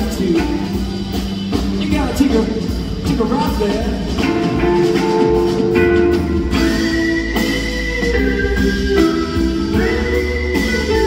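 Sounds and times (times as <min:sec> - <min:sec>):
live guitar-led concert music: 0:00.0 - 0:11.0.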